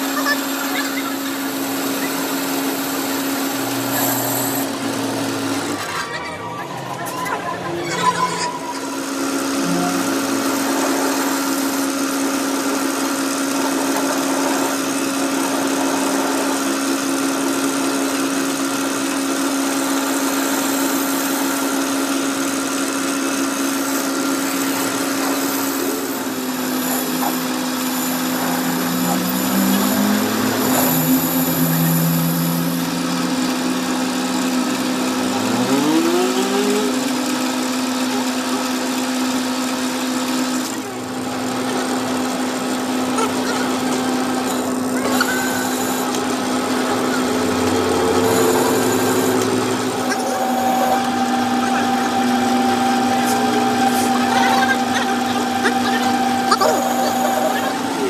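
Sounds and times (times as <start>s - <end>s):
rising whine: 0.0s - 38.4s, 40.6s - 58.0s
electric motor humming: 0.0s - 58.0s.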